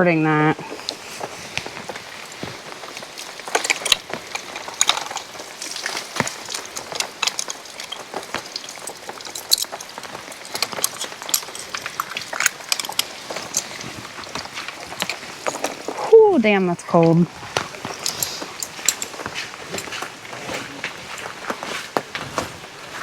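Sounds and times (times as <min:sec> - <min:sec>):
water drops and small splashes: 0:00.6 - 0:23.0.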